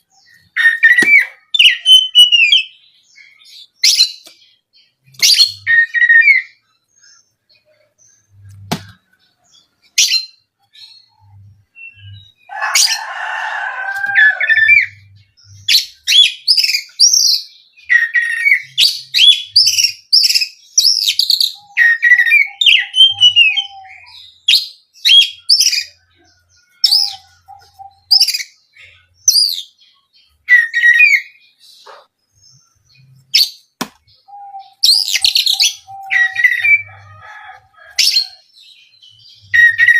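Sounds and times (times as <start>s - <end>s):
bird singing whistled notes: 0.0s - 8.7s, 14.6s - 37.1s, 38.1s - 39.9s.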